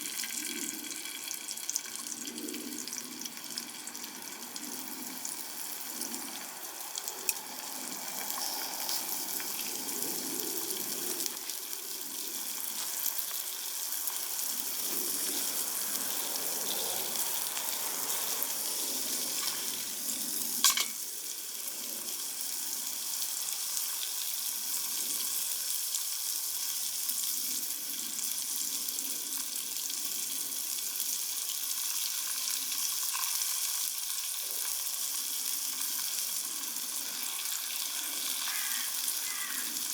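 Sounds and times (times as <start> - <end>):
meat sizzling over campfire: 0.0 - 39.9.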